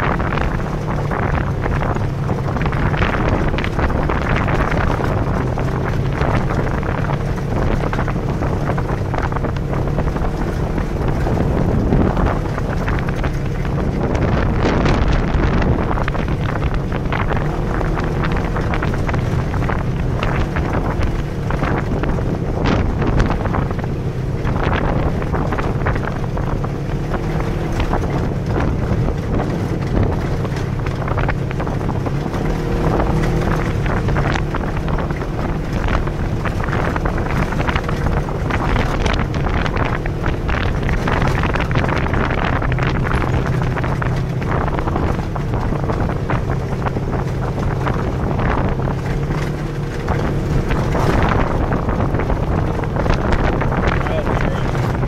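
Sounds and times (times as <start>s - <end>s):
knocks and rattles: 0.0s - 55.0s
off-road vehicle engine running: 0.0s - 55.0s
wind buffeting microphone: 0.0s - 55.0s.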